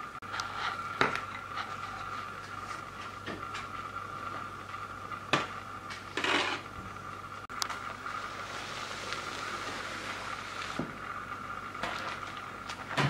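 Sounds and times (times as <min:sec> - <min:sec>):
steady high hum: 0:00.0 - 0:13.0.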